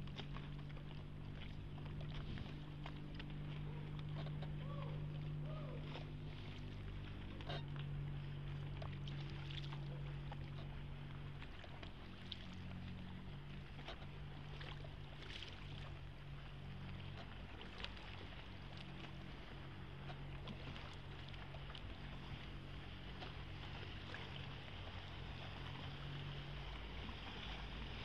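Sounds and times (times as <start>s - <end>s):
motorboat engine hum: 0.0s - 28.0s
oar strokes in water: 0.0s - 28.0s.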